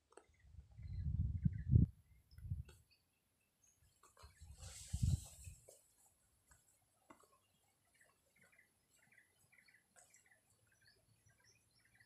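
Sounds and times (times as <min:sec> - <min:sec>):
faint bird chirps: 0:00.2 - 0:04.8, 0:06.7 - 0:12.0.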